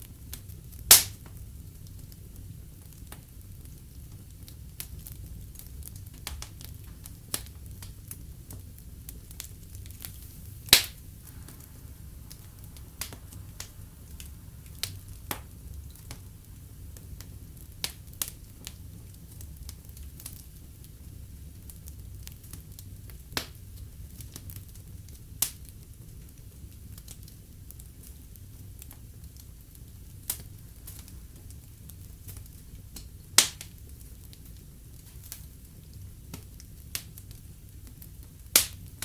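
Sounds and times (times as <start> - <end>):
fire crackles and snaps: 0.0 - 39.0
wood fire burning: 0.0 - 39.0.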